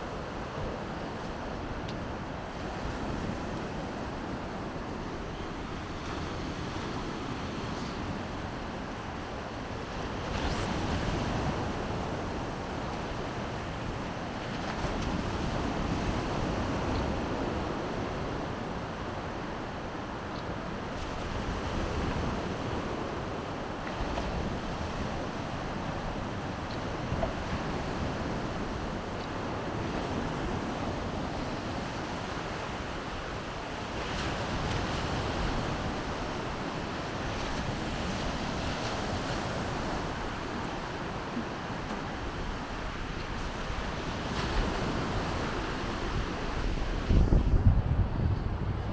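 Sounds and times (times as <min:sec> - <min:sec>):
wind rumbling on microphone: 0:00.0 - 0:48.9
surf breaking on shore: 0:02.5 - 0:48.9.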